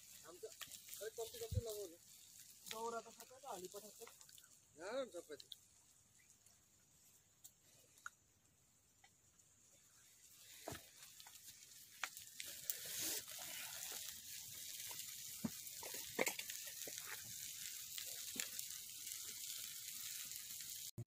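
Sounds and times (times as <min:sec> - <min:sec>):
sharp pops from fire: 0:00.0 - 0:06.6, 0:10.4 - 0:21.0
wood fire crackling and hissing: 0:00.0 - 0:21.0.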